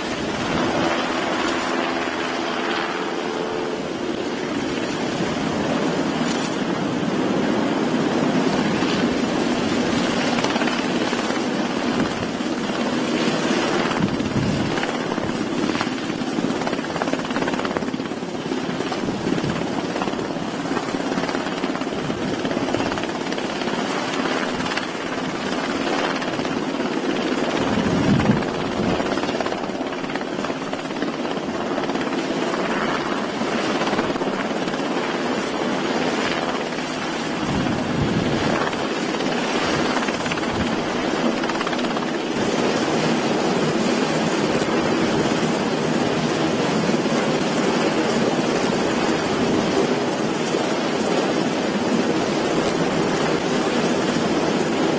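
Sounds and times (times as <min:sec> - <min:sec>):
helicopter rotors: 0:00.0 - 0:54.9.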